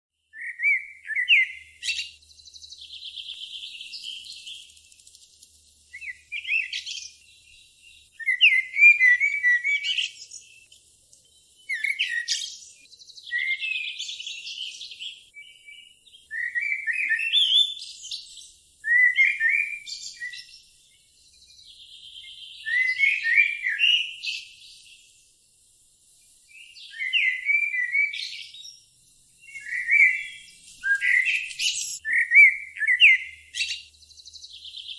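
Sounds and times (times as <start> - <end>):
bird singing: 0.2 - 25.6, 26.2 - 34.9.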